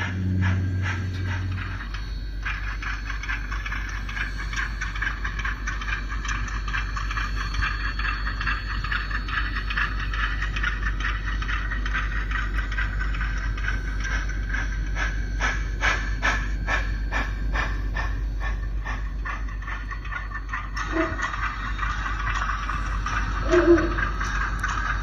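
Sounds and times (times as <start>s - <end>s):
faint motor whine: 0.0s - 25.0s
model train wheels clicking: 0.0s - 25.0s.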